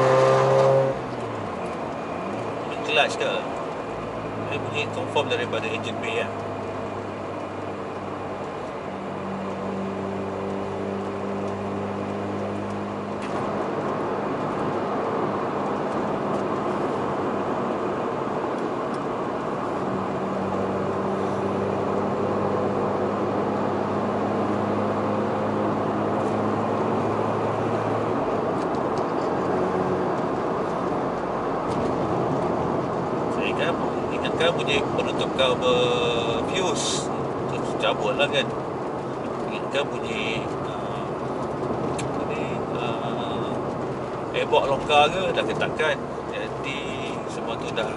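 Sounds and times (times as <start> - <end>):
rotary engine humming: 0.0 - 47.9.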